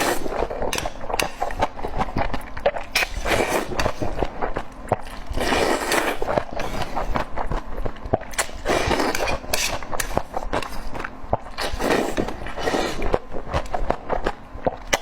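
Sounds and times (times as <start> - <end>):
slurping or crunching: 0.0 - 4.3, 4.9 - 7.3, 8.3 - 15.0.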